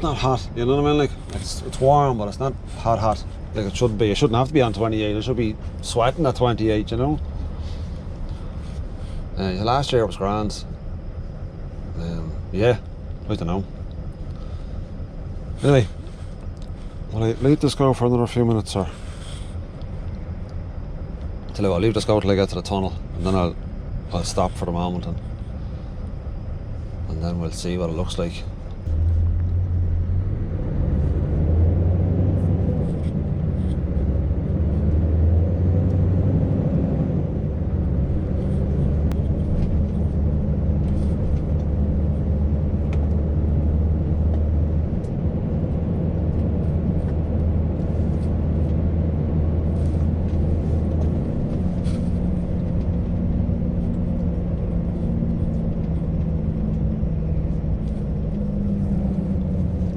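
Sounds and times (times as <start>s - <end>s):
road noise: 0.0s - 59.9s
truck engine drone: 0.0s - 59.9s.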